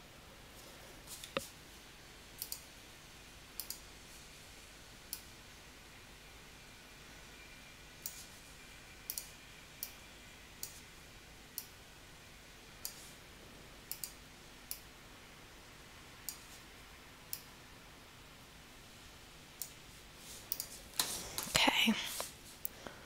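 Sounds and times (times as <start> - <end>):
faint background hiss: 0.0 - 23.0.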